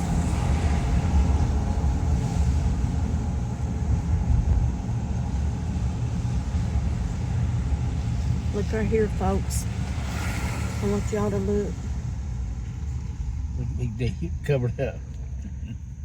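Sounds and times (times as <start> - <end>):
car engine and tyres on road: 0.0 - 16.0.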